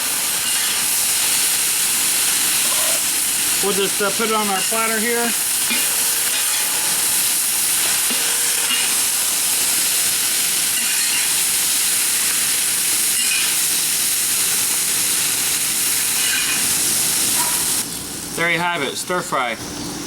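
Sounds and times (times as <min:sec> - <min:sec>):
stir-fry sizzling in a wok: 0:00.0 - 0:20.0.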